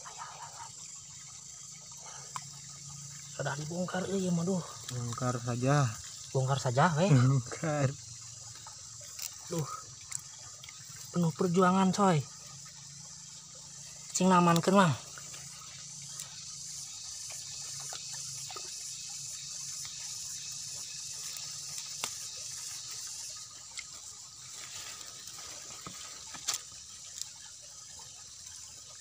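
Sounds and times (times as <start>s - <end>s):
insect hiss: 0.0s - 29.0s.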